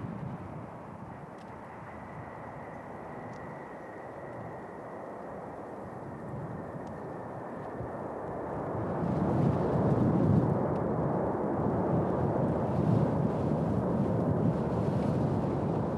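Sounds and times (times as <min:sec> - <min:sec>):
jet engines roaring: 0:00.6 - 0:13.4.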